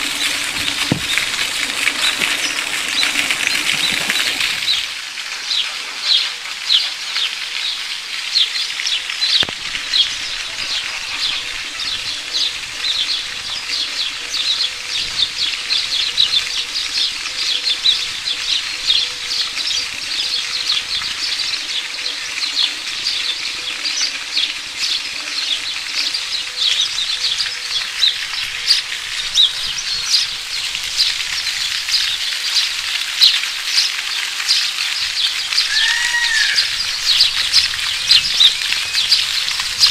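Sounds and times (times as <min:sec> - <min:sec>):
small birds chirping: 0:05.5 - 0:39.9.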